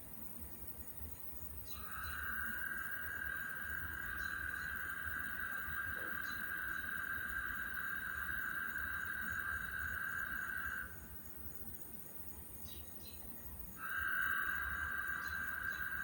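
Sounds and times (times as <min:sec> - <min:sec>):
high-pitched insect trill: 0:00.8 - 0:16.0.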